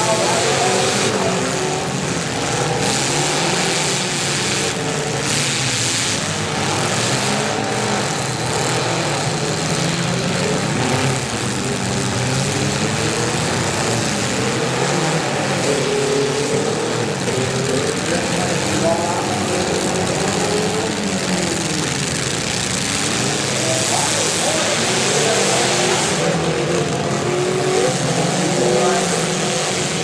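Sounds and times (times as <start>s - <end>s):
car engines revving hard: 0.0s - 30.0s.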